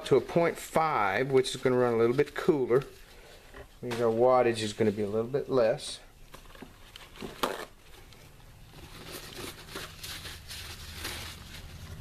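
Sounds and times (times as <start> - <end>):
paper towel crinkling: 0.0 - 12.0.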